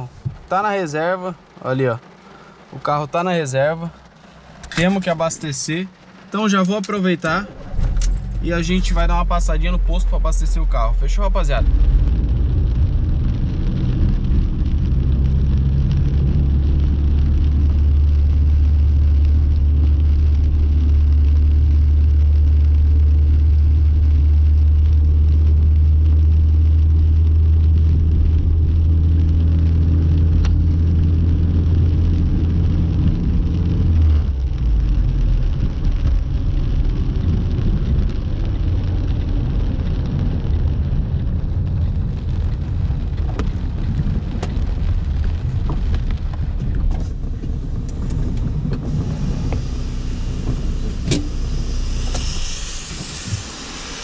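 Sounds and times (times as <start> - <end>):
heavy rain on car: 0.0 - 54.0
engine and road drone: 3.8 - 54.0.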